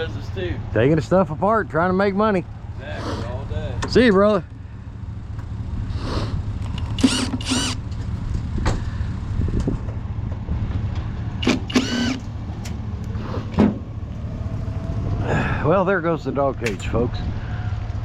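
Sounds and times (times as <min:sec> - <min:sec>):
truck engine low rumble: 0:00.0 - 0:18.0.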